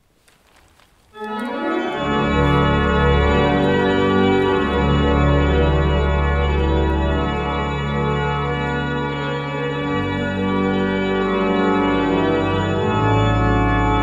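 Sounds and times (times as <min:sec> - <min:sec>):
church organ chords: 0:01.1 - 0:14.0
deep organ bass notes: 0:01.2 - 0:14.0.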